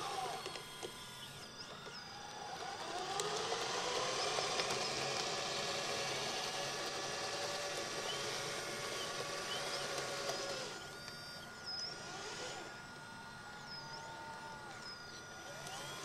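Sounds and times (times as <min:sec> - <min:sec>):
model loader motor whining: 0:00.0 - 0:16.0.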